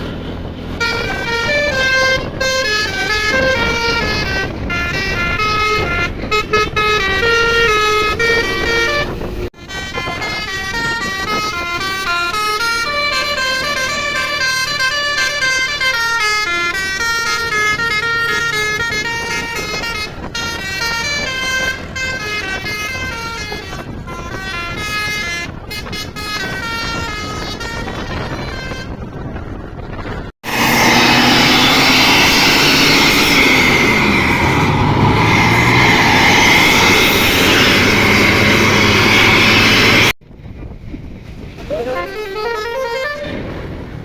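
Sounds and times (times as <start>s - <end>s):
held horn tones: 0.0s - 29.2s, 30.4s - 40.2s, 41.7s - 43.8s
multi-tone bus horn playing a tune: 0.0s - 29.4s, 30.4s - 40.2s, 41.7s - 44.0s.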